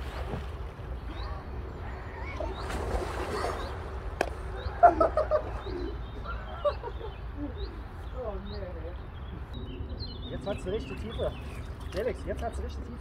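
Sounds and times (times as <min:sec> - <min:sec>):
birds chirping: 0:00.0 - 0:13.0
low wind rumble: 0:00.0 - 0:13.0.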